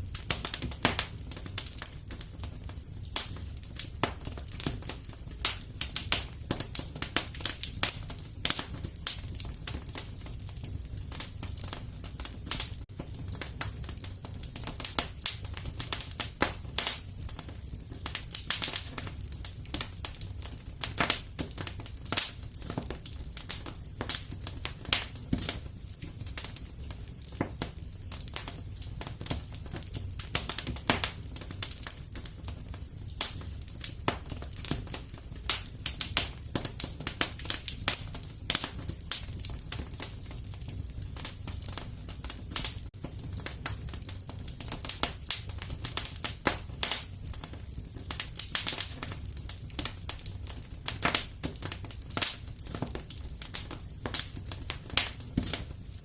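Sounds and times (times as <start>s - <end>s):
low rumble of flame: 0.0s - 56.0s
wood fire crackling and popping: 0.0s - 56.0s.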